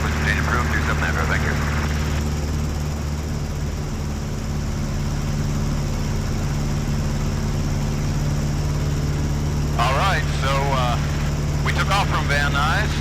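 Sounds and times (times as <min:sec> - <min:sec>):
aircraft engine and propeller droning: 0:00.0 - 0:13.0.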